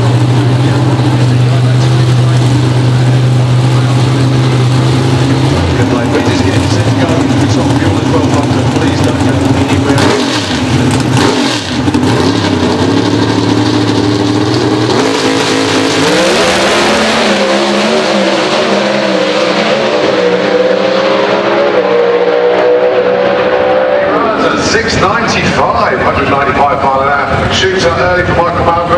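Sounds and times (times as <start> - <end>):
drag car engines at high revs: 0.0 - 28.9.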